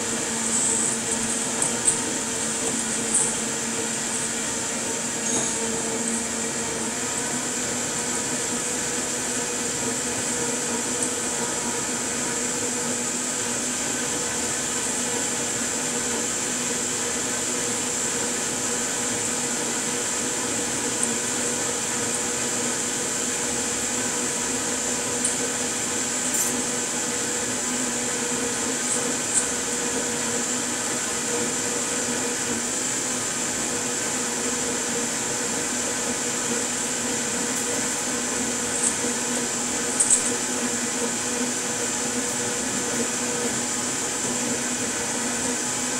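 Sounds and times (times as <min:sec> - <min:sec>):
motor hum with high whine: 0:00.0 - 0:45.9.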